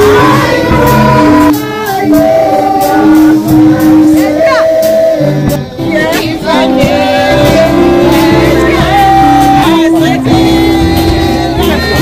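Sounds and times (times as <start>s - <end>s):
drum hits: 0.0s - 12.0s
person singing a hymn: 0.0s - 12.0s
sustained keyboard chords: 0.0s - 12.0s.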